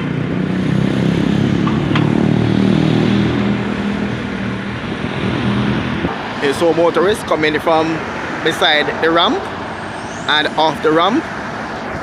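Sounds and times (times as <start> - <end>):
traffic noise: 0.0 - 12.0
vehicle engine droning: 0.0 - 12.0.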